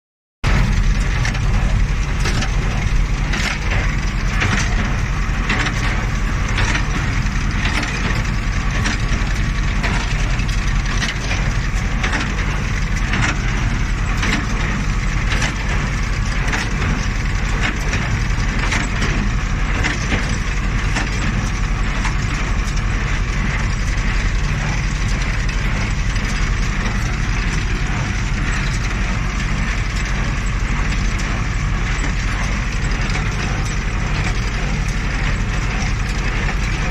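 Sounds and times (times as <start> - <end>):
tractor engine drone: 0.4 - 36.9
hay baler clattering knocks: 0.5 - 36.9.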